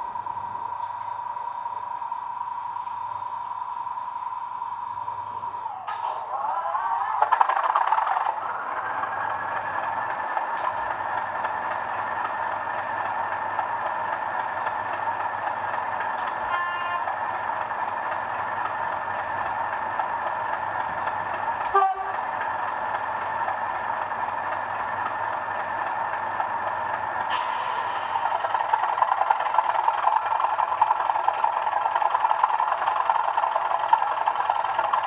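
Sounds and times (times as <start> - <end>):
model locomotive engine sound: 0.0 - 35.0.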